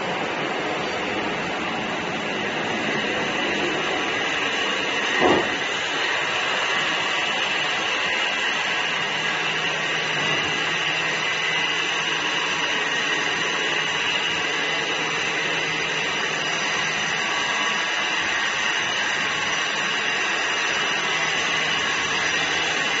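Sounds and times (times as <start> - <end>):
workshop machinery whirring: 0.0 - 23.0.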